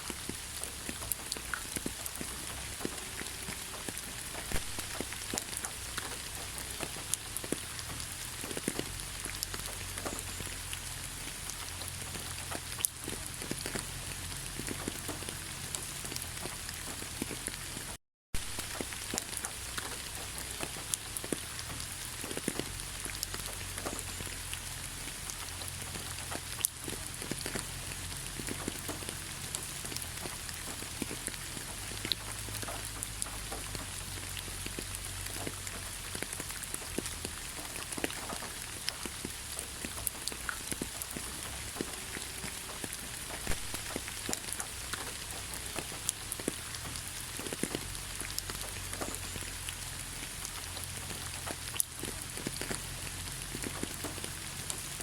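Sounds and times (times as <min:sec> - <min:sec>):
close raindrops ticking: 0:00.0 - 0:55.0
steady rain hiss: 0:00.0 - 0:55.0.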